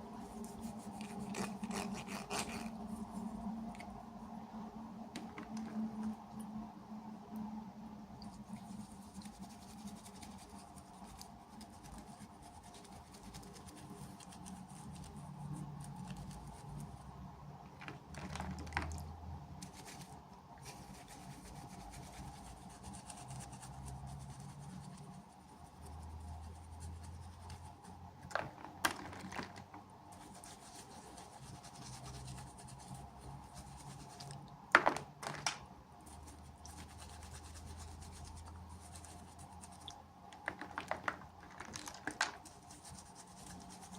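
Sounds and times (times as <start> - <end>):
faint steady hum: 0.0 - 43.9
hands rubbing toy packaging: 0.2 - 3.6, 8.4 - 17.0, 19.6 - 34.4, 35.0 - 43.9.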